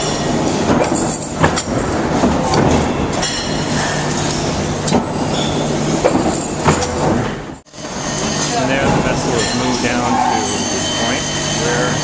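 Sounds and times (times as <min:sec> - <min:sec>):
low machine hum: 0:00.0 - 0:12.0
machinery clattering: 0:00.0 - 0:12.0.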